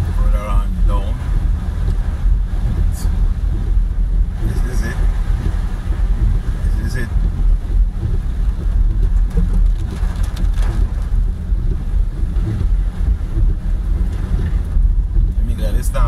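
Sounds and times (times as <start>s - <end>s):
car and tyres rumbling: 0.0s - 16.0s
rain on car body: 0.0s - 16.0s.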